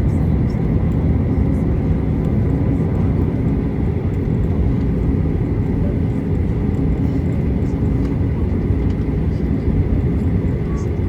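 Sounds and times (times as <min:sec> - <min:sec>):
airplane engines rumbling at idle: 0:00.0 - 0:11.0.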